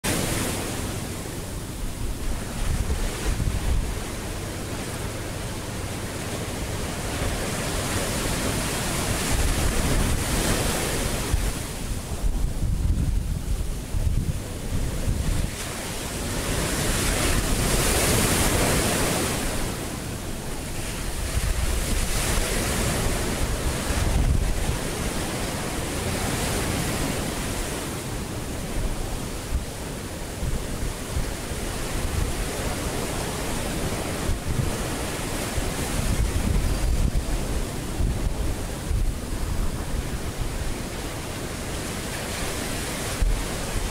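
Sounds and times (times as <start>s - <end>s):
ocean surf breaking on beach: 0.0s - 43.9s
wind buffeting microphone: 0.1s - 43.9s.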